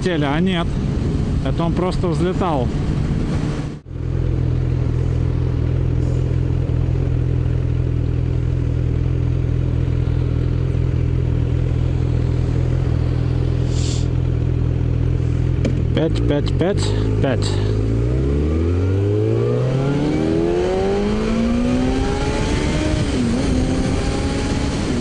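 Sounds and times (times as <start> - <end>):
wind and road noise: 0.0 - 25.0
motorcycle engine running: 2.7 - 25.0.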